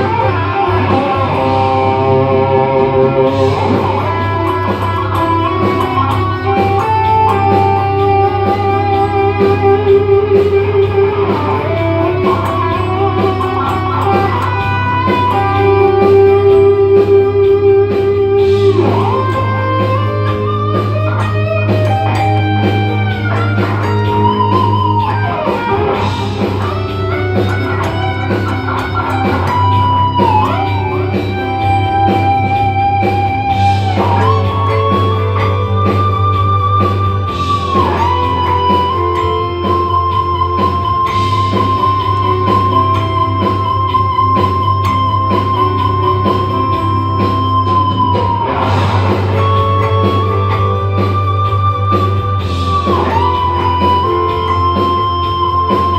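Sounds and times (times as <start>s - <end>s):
electric guitar lead melody: 0.0s - 55.9s.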